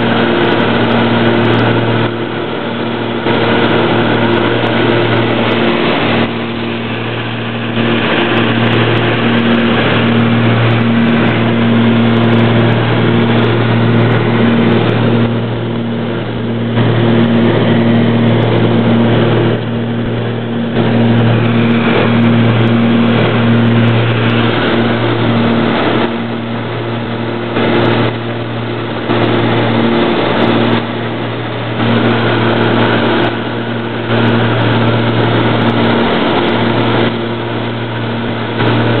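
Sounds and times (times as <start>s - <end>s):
aircraft engine droning in cabin: 0.0s - 39.0s.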